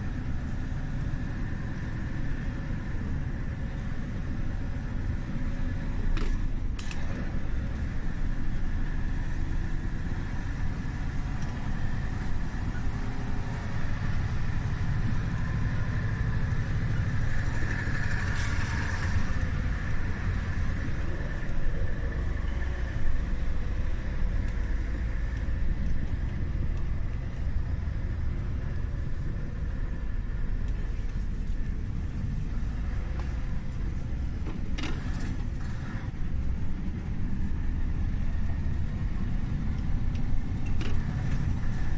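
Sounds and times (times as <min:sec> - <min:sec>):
road noise: 0:00.0 - 0:41.9
vehicle engine rumbling: 0:00.0 - 0:41.9.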